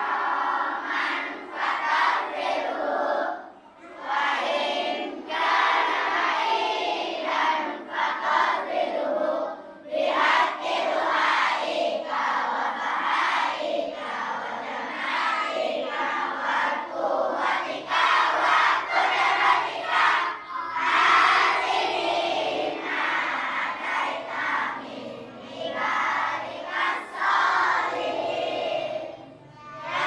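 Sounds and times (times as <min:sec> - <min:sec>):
children chanting in unison: 0:00.0 - 0:30.0.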